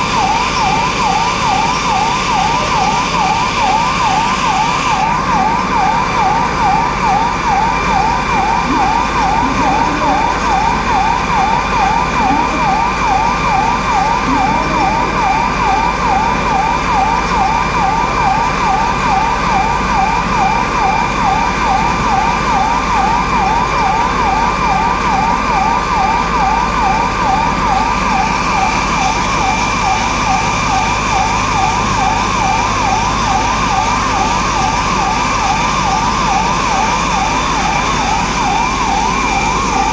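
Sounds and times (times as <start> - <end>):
emergency siren yelping: 0.0 - 39.9.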